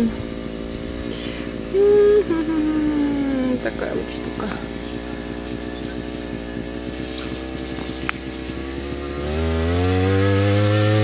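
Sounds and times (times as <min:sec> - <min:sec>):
cultivator engine revving: 0:00.0 - 0:11.0.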